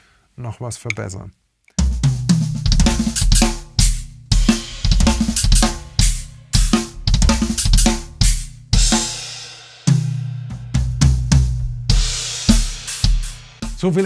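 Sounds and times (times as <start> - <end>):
acoustic drum kit groove: 1.7 - 14.0.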